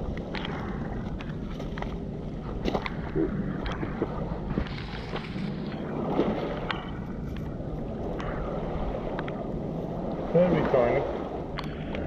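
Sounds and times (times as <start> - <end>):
small waves washing: 0.0 - 12.0
wind on microphone: 0.0 - 12.0.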